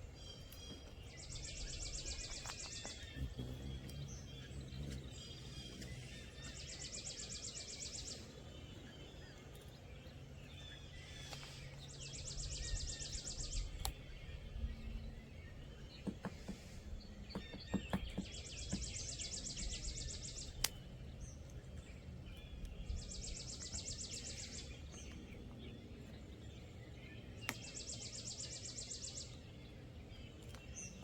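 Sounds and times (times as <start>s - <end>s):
birds chirping: 0.0s - 31.0s
songbird trilling: 0.0s - 31.0s.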